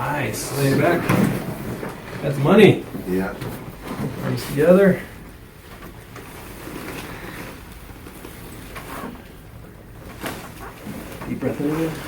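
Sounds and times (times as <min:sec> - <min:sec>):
clothing rustling on padded table: 0:00.2 - 0:12.0.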